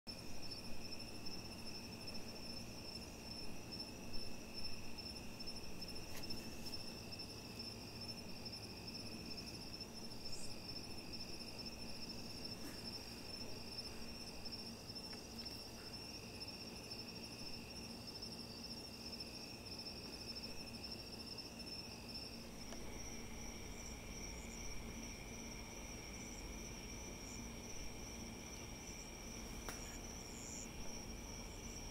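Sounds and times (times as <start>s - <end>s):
crickets trilling: 0.1s - 31.9s.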